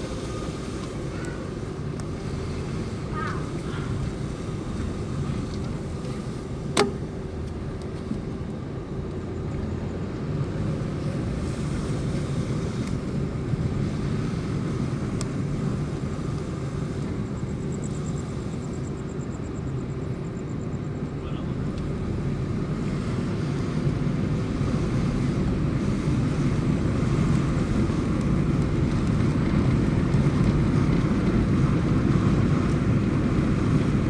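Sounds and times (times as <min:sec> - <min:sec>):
car engine droning while driving: 0:00.0 - 0:34.0.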